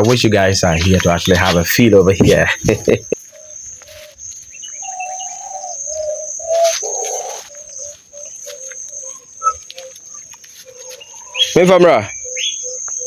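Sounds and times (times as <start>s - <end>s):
rustling: 0.0s - 11.6s
birds calling low notes: 0.0s - 13.0s
high-pitched insect drone: 0.7s - 13.0s.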